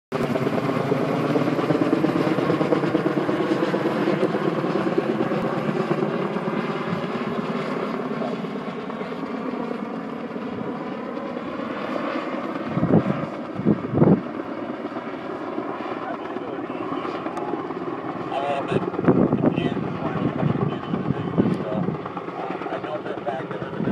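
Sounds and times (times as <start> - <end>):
helicopter flying overhead: 0.1 - 23.9.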